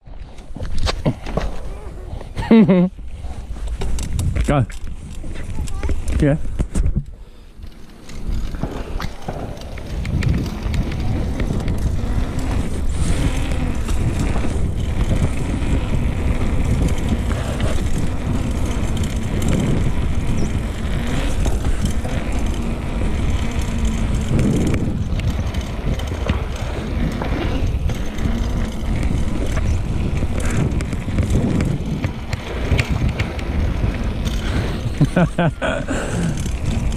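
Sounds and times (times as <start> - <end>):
bike tyres on dirt trail: 0.0 - 36.9
wind buffeting microphone: 0.0 - 36.9
bike knocks and rattles: 3.6 - 36.9.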